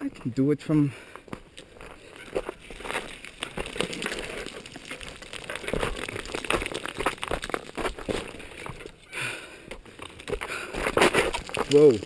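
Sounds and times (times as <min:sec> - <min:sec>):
bike tyres crunching on gravel: 0:00.0 - 0:12.0
bike rattling: 0:01.3 - 0:12.0.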